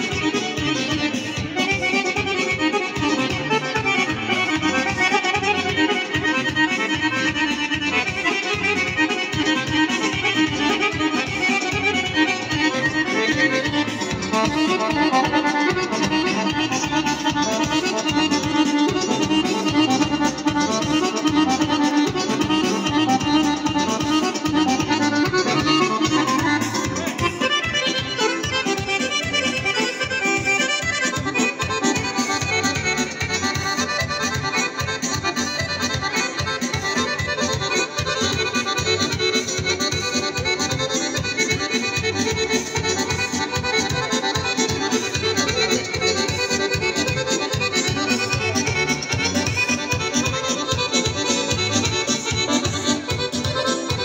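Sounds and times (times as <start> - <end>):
accordion folk dance music: 0.0 - 54.0.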